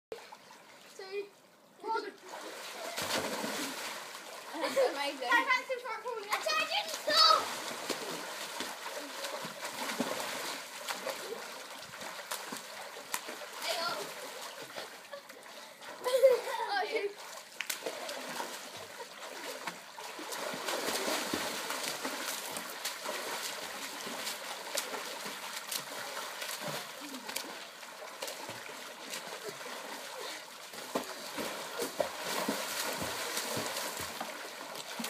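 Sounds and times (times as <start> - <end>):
children splashing in pool: 1.9 - 35.0
water churning: 1.9 - 35.0.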